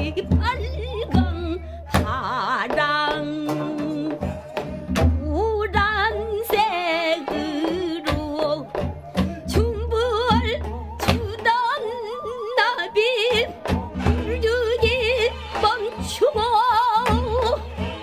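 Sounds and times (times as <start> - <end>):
solo voice singing with vibrato: 0.0 - 15.3.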